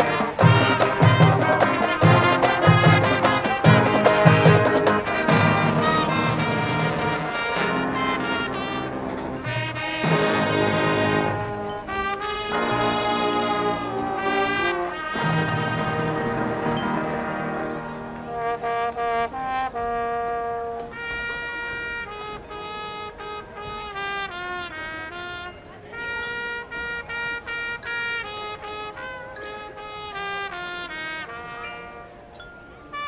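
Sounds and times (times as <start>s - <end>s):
marching band brass playing: 0.0s - 33.0s.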